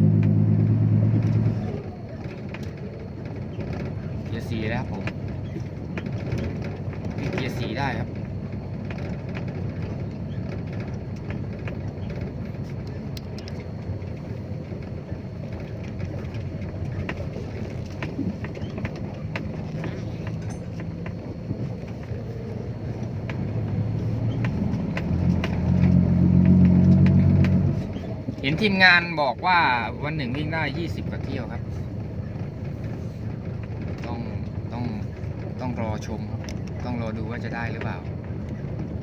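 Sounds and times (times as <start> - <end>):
truck diesel engine running: 0.0 - 39.0
light rattles and clicks: 1.1 - 39.0.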